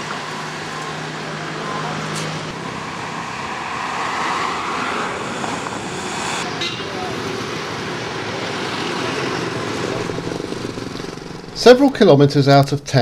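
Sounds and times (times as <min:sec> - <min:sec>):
passing cars and motorbikes: 0:00.0 - 0:11.9.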